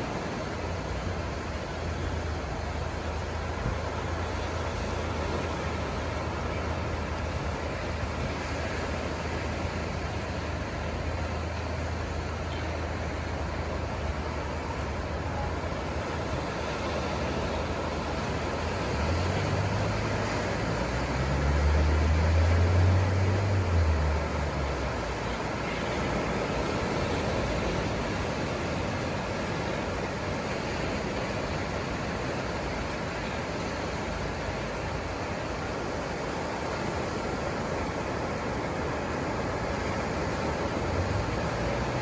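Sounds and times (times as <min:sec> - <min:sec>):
ocean surf washing on beach: 0:00.0 - 0:42.0.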